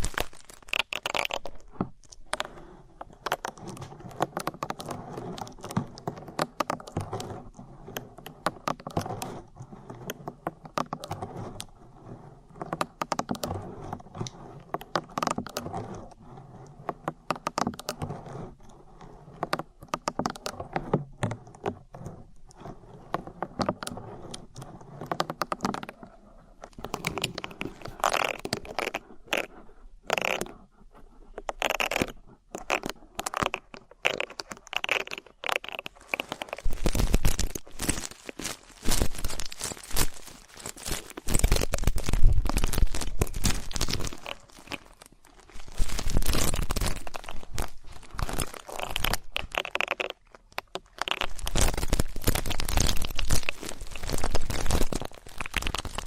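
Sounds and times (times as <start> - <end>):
ear pick scraping microphone: 1.2 - 56.0.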